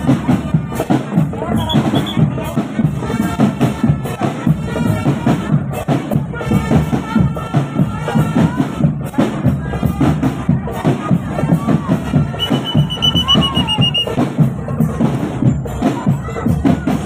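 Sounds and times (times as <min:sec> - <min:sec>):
marching band melody: 0:00.0 - 0:17.0
marching drum beat: 0:00.0 - 0:17.0.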